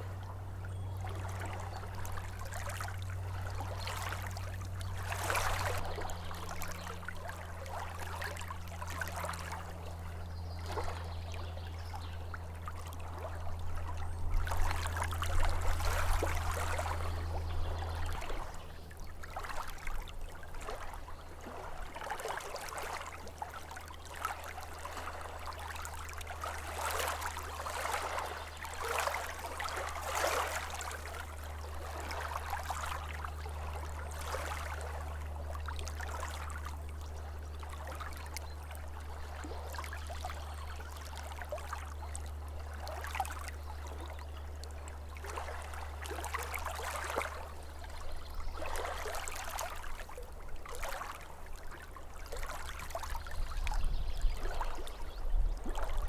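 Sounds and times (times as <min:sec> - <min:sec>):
small waves lapping shore: 0:00.0 - 0:56.0
steady low hum: 0:00.0 - 0:56.0.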